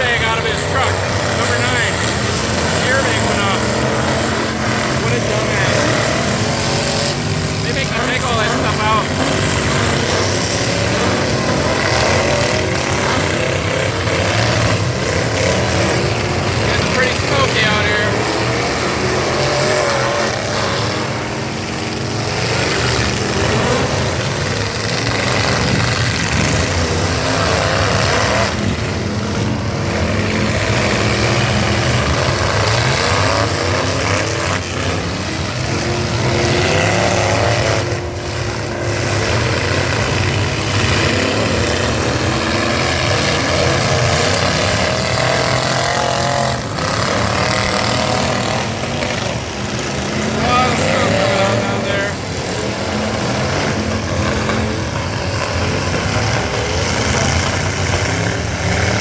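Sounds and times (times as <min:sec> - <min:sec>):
truck engines revving: 0:00.0 - 0:59.0
vehicles crashing: 0:00.0 - 0:59.0.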